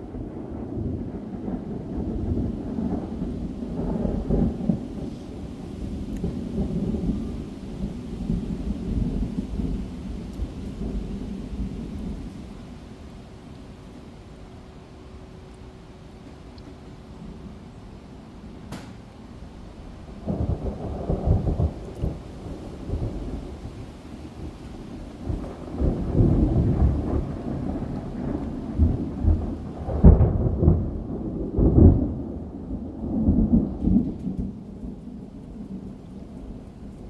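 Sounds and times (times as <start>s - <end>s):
thunder rumbling: 0.0s - 14.0s, 17.1s - 37.0s.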